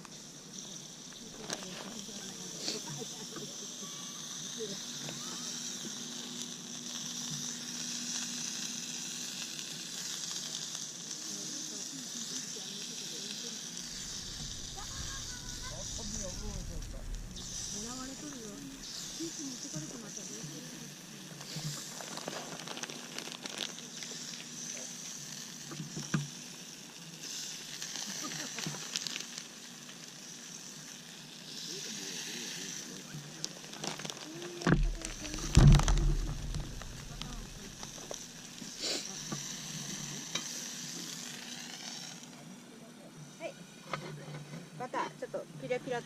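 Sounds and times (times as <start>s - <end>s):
fire popping: 0.0s - 42.7s
food sizzling in oil: 0.0s - 44.0s.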